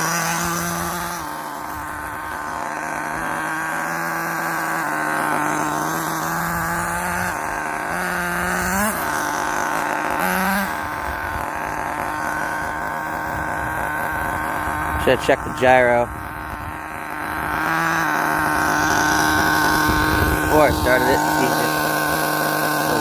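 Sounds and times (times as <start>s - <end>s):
small two-stroke engine idling: 0.0s - 23.0s.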